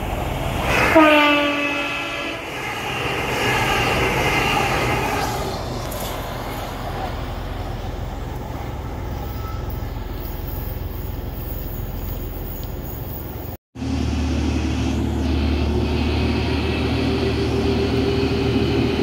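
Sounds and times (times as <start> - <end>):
low rumble of train: 0.0 - 19.0
train passing: 0.0 - 19.0.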